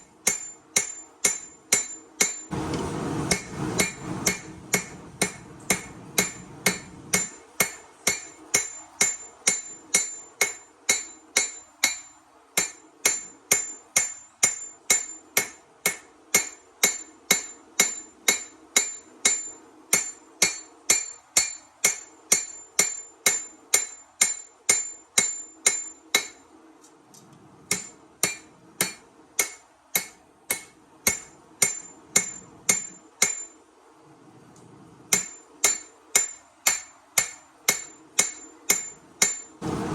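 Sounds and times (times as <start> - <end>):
forging hammer ringing on anvil: 0.2 - 2.5, 3.3 - 26.4, 27.7 - 33.6, 35.1 - 39.6.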